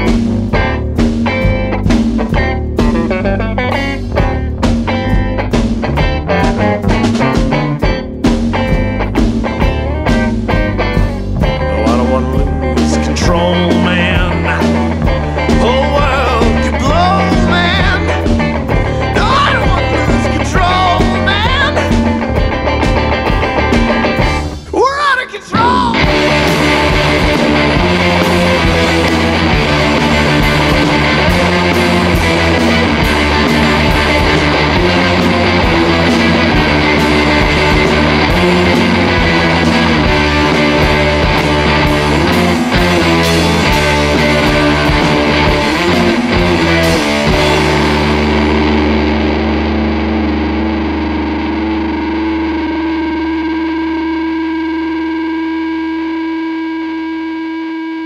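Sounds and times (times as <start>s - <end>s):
rock music with electric guitar: 0.0s - 58.0s.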